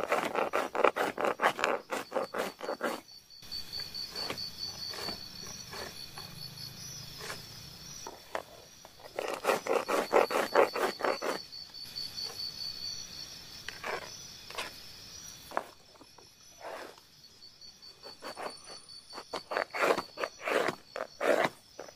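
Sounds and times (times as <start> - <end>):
high insect buzz: 0.0 - 21.9.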